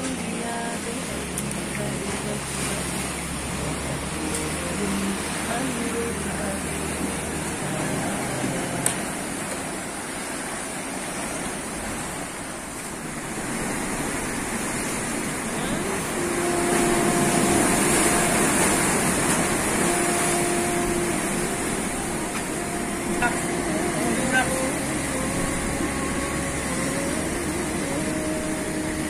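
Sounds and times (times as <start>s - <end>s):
faint steady hum: 0.0s - 29.0s
surf breaking over rocks: 0.0s - 29.0s.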